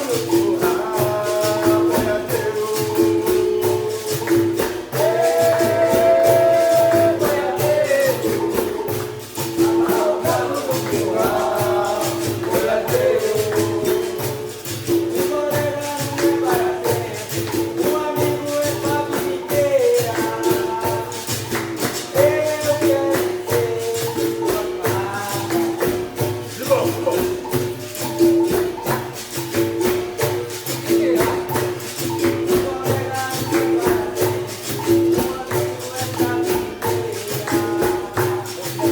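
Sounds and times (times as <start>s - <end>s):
person singing: 0.0s - 26.0s, 30.6s - 38.9s
pandeiro jingles: 0.0s - 38.9s
shakers rhythm: 0.0s - 38.9s.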